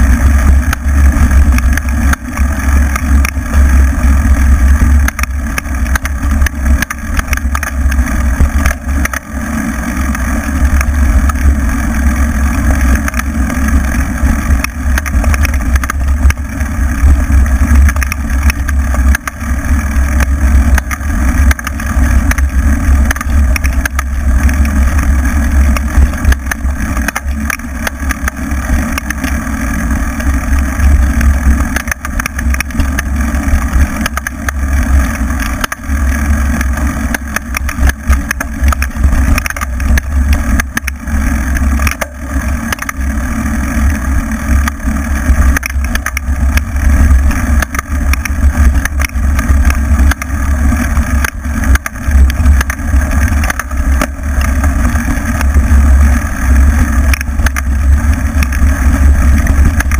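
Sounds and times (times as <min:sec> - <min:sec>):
bike knocks and rattles: 0:00.0 - 0:59.9.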